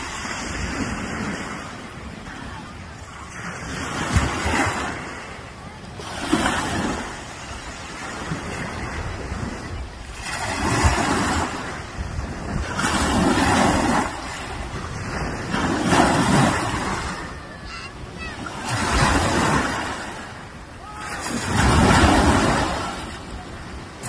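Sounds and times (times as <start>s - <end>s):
waves washing up pebbly beach: 0.0s - 24.0s.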